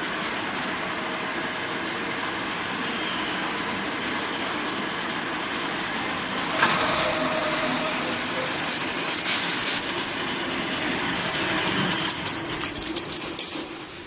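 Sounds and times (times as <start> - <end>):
machine running: 0.0 - 14.0.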